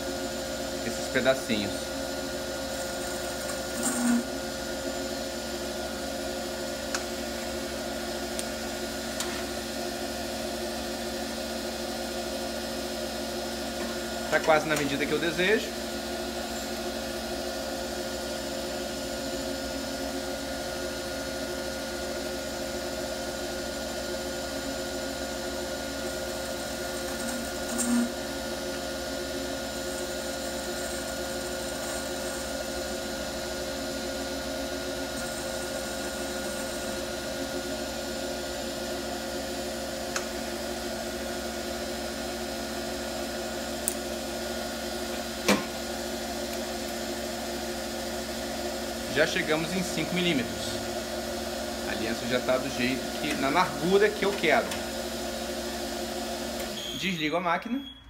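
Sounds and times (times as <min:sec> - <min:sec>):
lathe humming: 0:00.0 - 0:56.8.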